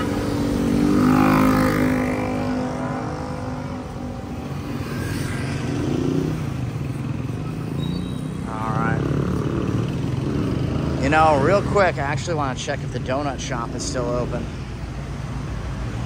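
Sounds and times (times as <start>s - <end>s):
motorcycles passing close: 0.0s - 16.0s
rumble of traffic: 0.0s - 16.0s.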